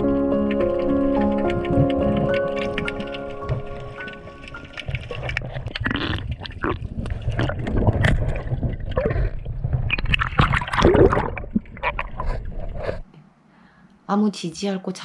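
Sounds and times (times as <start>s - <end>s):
low rumble of moving water: 0.0s - 13.1s
sea water splashing and gurgling: 0.0s - 13.1s.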